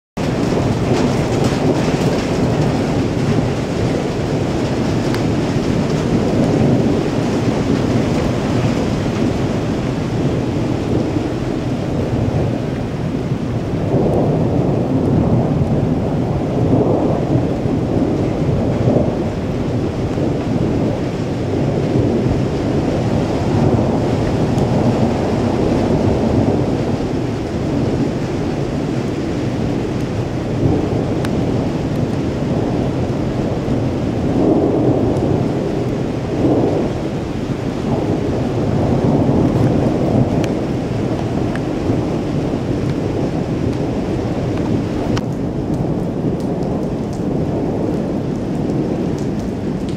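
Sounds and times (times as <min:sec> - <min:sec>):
steady rain: 0:00.2 - 0:49.9
thunder rolling: 0:00.2 - 0:49.9.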